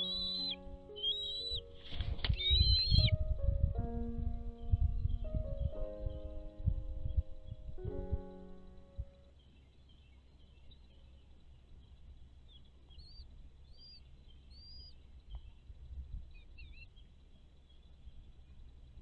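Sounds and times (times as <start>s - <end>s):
bird chirping faintly: 0.0s - 19.0s
faint low rumble: 0.0s - 19.0s.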